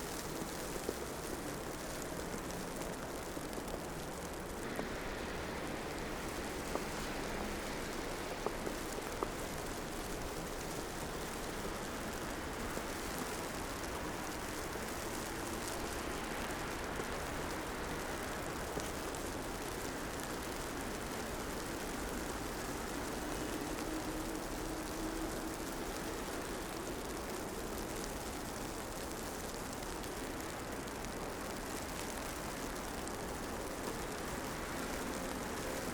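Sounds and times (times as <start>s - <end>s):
traffic on slushy roads: 0.0s - 35.9s
wet snow falling: 0.0s - 35.9s.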